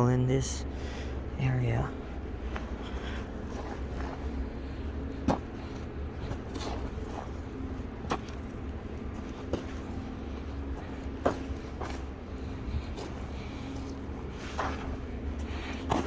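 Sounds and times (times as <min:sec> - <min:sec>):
low rumble with faint hum: 0:00.0 - 0:16.0.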